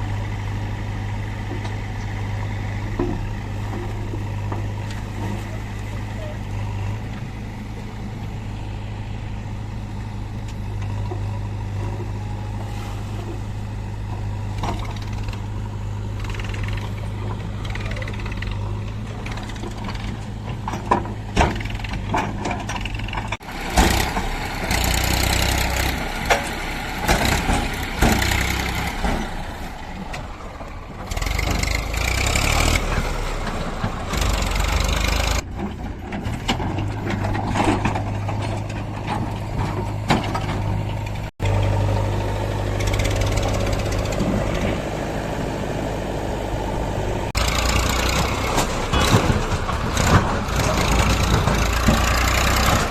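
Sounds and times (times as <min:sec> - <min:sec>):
diesel engine running: 0:00.0 - 0:52.9
machinery clanks and knocks: 0:01.3 - 0:08.4, 0:10.3 - 0:45.4, 0:47.1 - 0:52.9.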